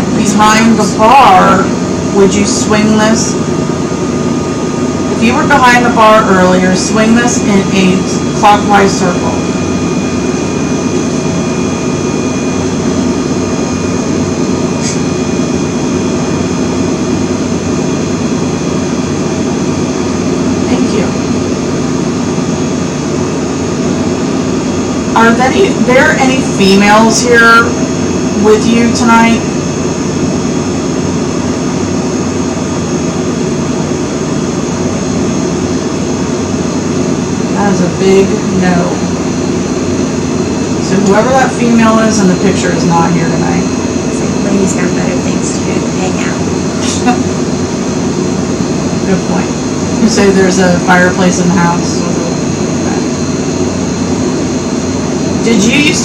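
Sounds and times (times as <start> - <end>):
loud mechanical drone: 0.0 - 56.0.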